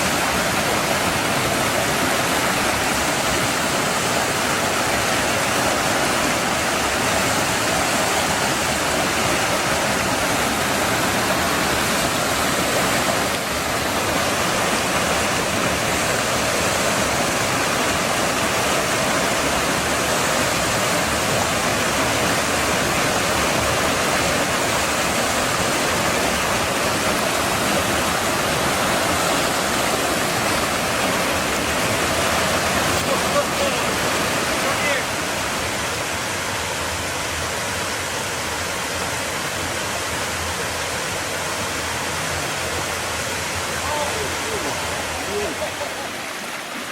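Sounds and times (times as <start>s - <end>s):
river water rushing over rapids: 0.0s - 46.9s.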